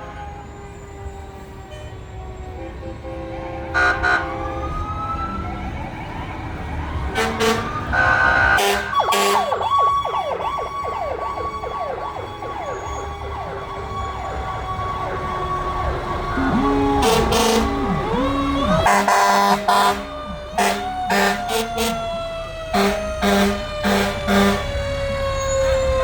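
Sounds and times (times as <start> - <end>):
fire engine horn blasts: 0.0 - 5.7, 6.9 - 26.0
sirens wailing: 0.0 - 26.0.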